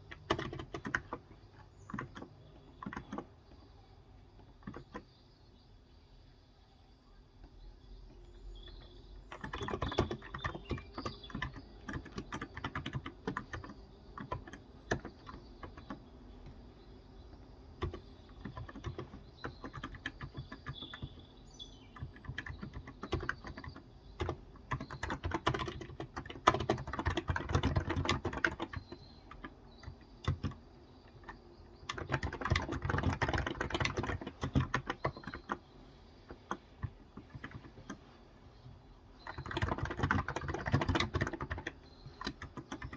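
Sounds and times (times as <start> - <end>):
keyboard typing: 0.0 - 5.2, 7.4 - 42.9.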